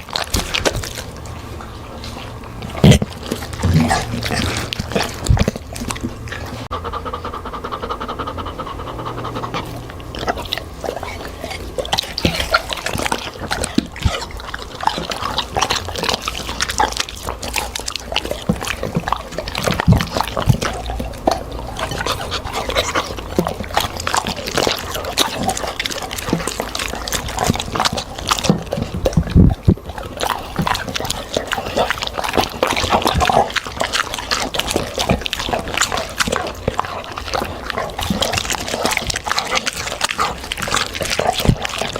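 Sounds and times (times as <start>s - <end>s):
dog chewing and smacking: 0.0s - 41.9s.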